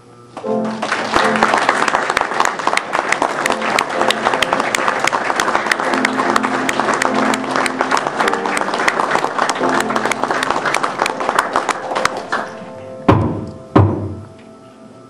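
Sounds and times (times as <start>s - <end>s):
music with held notes: 0.0s - 15.0s
crowd applauding: 0.4s - 12.9s.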